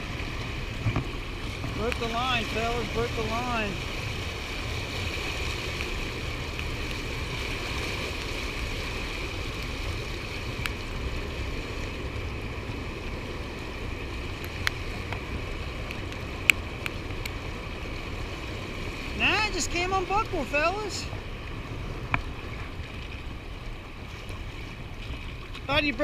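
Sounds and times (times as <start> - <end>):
fast river water rushing: 0.0 - 26.0.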